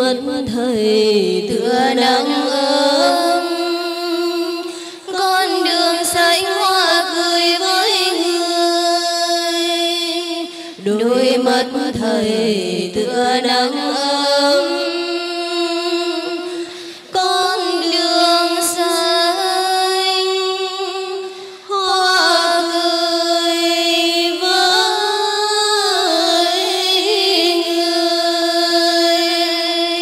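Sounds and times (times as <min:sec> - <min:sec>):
women singing into microphones: 0:00.0 - 0:30.0.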